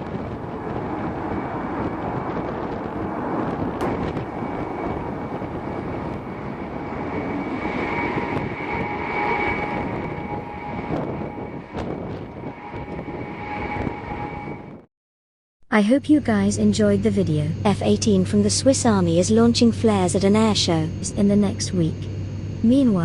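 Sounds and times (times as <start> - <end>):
jet engines running: 0.0 - 14.9, 16.2 - 23.0.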